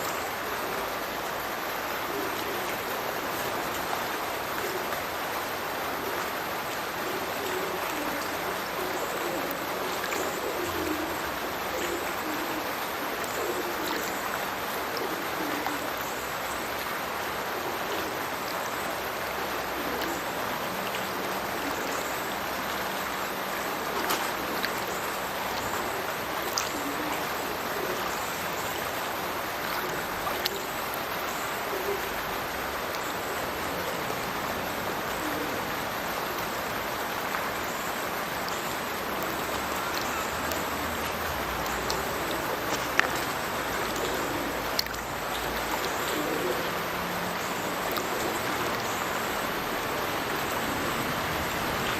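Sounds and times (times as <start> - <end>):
stream pouring into river: 0.0 - 51.9.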